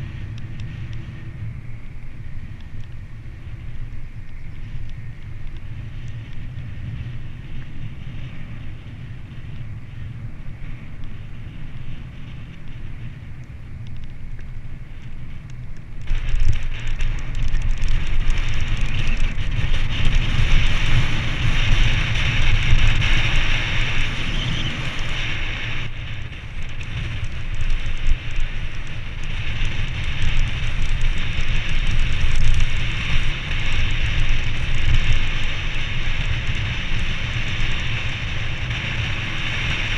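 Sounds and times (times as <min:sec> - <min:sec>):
tyre noise on a paved road: 0:00.0 - 0:39.9
wind buffeting a microphone: 0:00.0 - 0:39.9.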